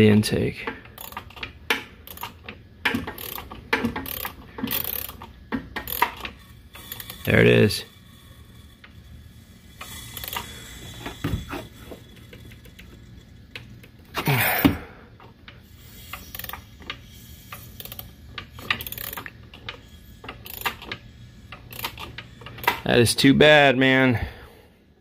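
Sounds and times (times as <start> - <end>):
wrench and valve train clicks: 0.6 - 9.1, 9.7 - 14.0, 15.2 - 22.9.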